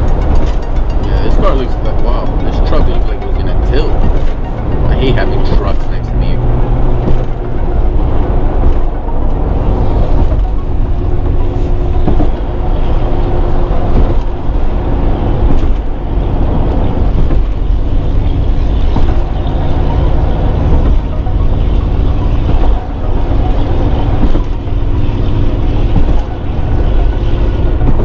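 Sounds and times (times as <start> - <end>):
road and wind noise inside car: 0.0 - 28.0.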